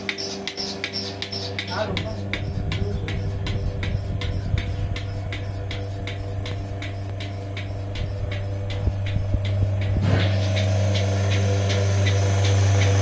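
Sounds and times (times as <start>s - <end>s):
pulsator ticking: 0.0s - 13.0s
vacuum pump hum: 0.0s - 13.0s.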